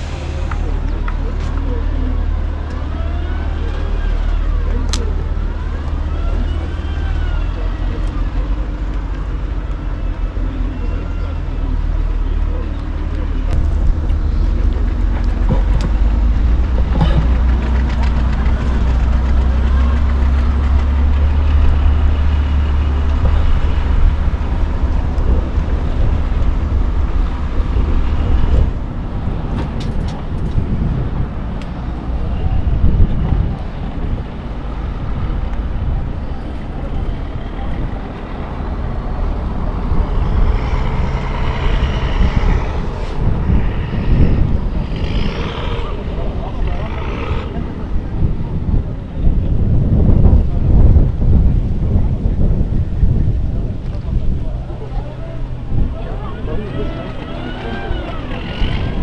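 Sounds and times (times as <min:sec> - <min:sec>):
rough vehicle noise: 0:00.0 - 0:59.0
truck heavy low rumble: 0:00.0 - 0:59.0.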